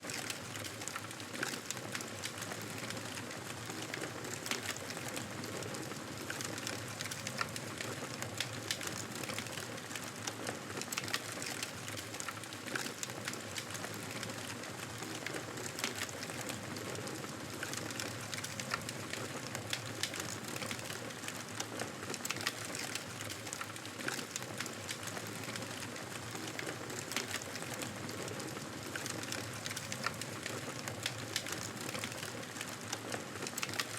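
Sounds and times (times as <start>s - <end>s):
campfire crackling and popping: 0.1s - 33.9s.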